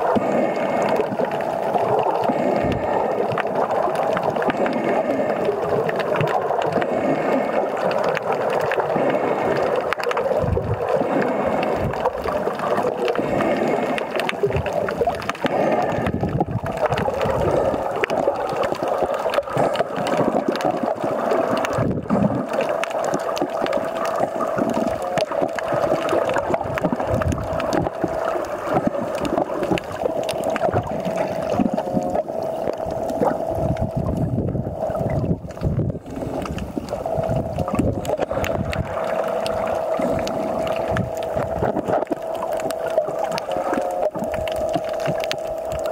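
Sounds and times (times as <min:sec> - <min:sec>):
muffled water sloshing and gurgling: 0:00.0 - 0:45.9
steady hum: 0:00.0 - 0:45.9.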